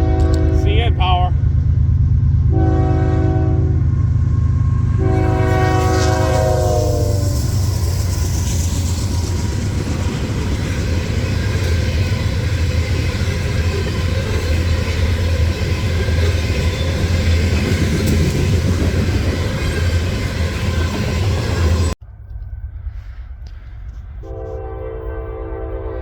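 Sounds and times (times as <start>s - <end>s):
freight train rumbling on rails: 0.0s - 26.0s.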